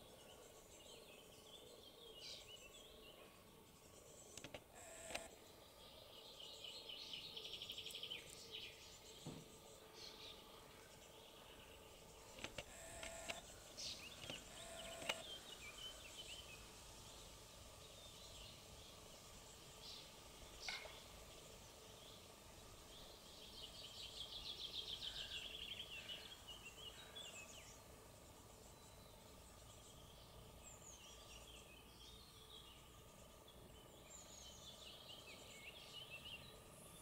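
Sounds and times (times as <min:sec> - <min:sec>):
rapid trilled birdsong: 0:00.0 - 0:37.0.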